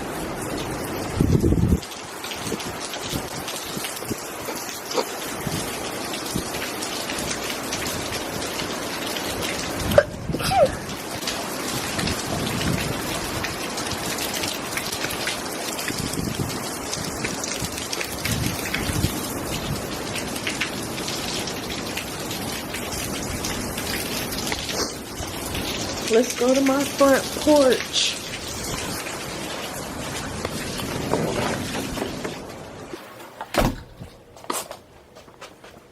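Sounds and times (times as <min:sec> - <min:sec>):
heavy rain pouring: 0:00.0 - 0:34.1.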